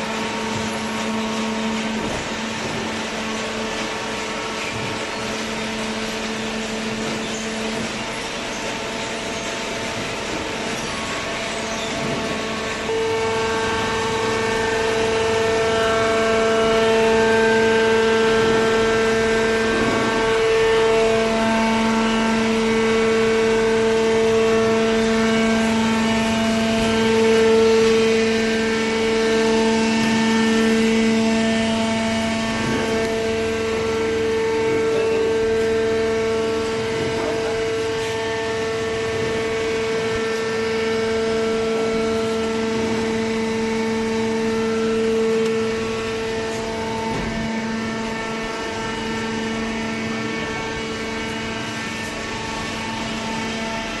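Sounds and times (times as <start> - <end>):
motor and hydraulic pump whine: 0.0 - 54.0.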